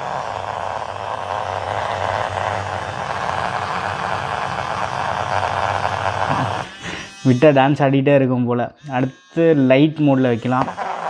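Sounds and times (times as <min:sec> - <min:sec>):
electric toothbrush buzzing: 0:00.0 - 0:08.0, 0:08.7 - 0:11.0.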